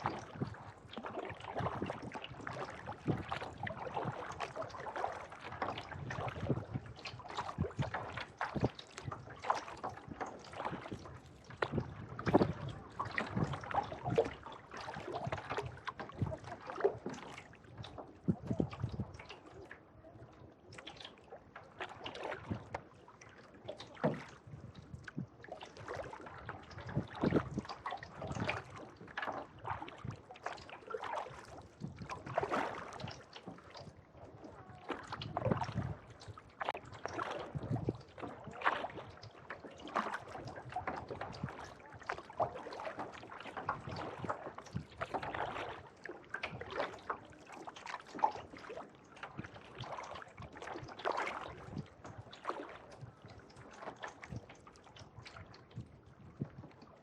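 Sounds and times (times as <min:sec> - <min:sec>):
kayak paddle splashing water: 0:00.0 - 0:57.0.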